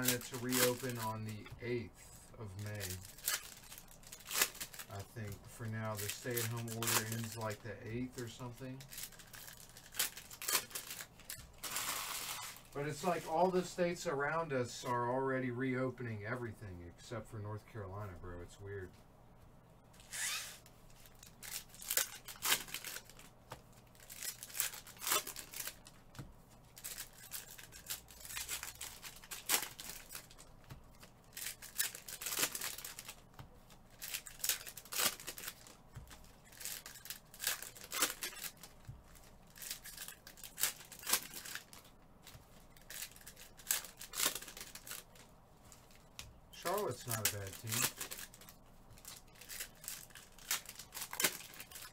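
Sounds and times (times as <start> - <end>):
packaging crinkling and tearing: 0.0 - 1.5, 2.5 - 13.4, 20.0 - 26.0, 26.6 - 51.9.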